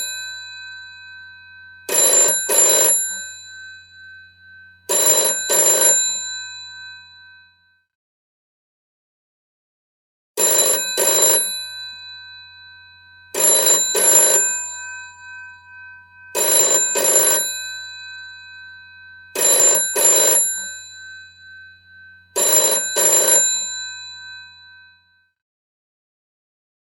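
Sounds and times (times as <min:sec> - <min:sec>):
old telephone bell ringing: 0:00.0 - 0:07.8, 0:10.4 - 0:25.4.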